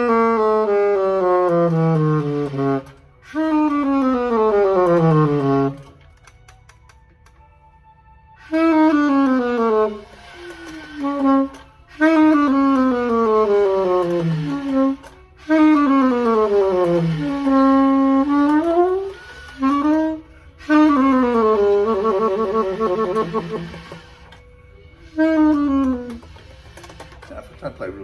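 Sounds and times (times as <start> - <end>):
saxophone notes: 0.0 - 6.4, 8.4 - 27.1.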